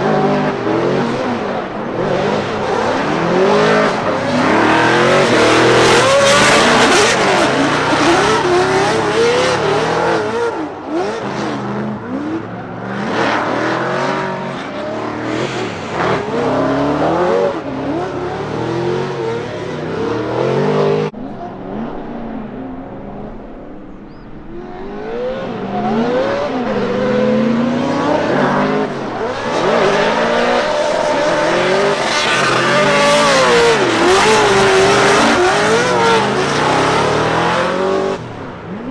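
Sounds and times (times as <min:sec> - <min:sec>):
car engines revving hard: 0:00.0 - 0:38.9.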